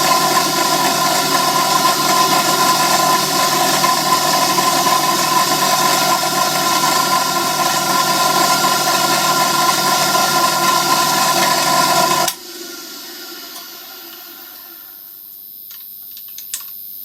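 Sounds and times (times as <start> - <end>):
workshop machine motor whining: 0.0 - 15.2.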